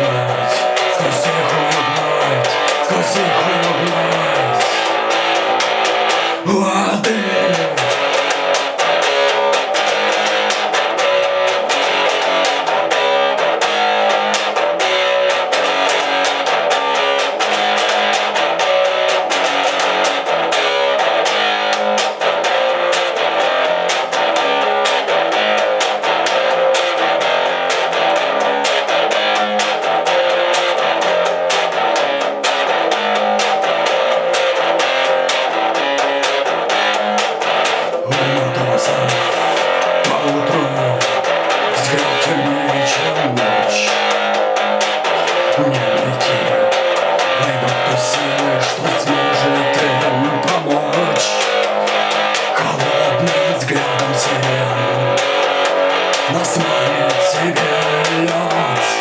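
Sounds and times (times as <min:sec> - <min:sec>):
instrumental rock band music: 0:00.0 - 0:59.0.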